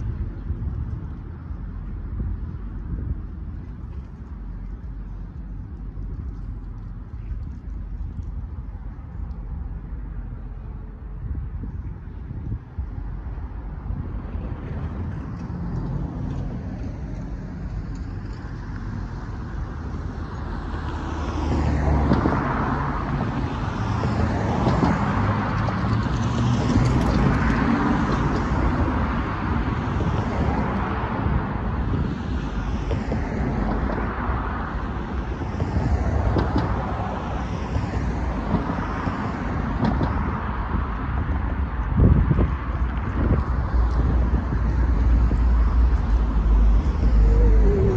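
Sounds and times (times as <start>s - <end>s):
cars driving by: 0.0s - 47.9s.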